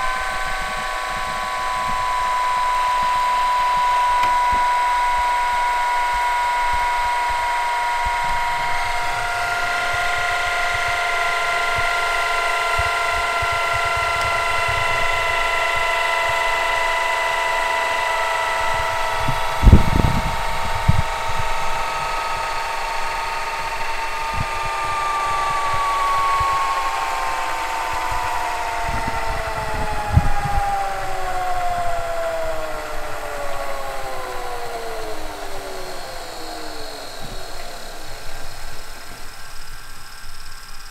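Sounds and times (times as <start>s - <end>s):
tape rewinding whine: 0.0s - 40.9s.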